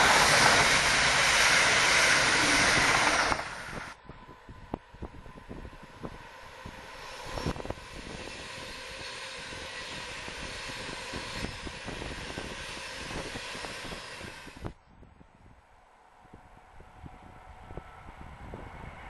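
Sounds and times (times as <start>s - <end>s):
train rushing past: 0.0s - 14.8s, 16.1s - 19.0s.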